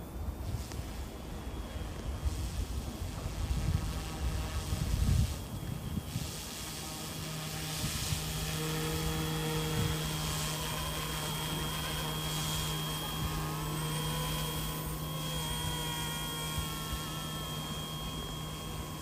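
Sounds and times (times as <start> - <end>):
helicopter rotor hum: 0.0 - 19.0
high-pitched motor whine: 0.0 - 19.0.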